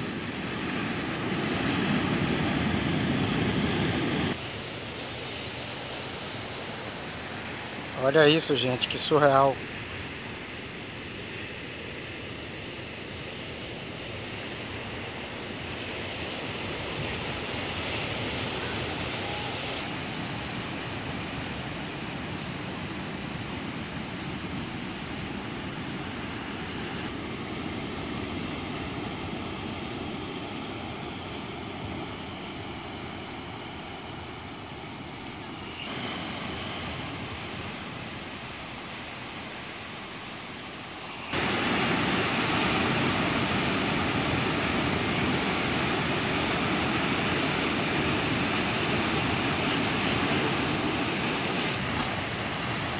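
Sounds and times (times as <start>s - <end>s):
ocean surf breaking on rocks: 0.0s - 11.3s, 13.0s - 52.9s.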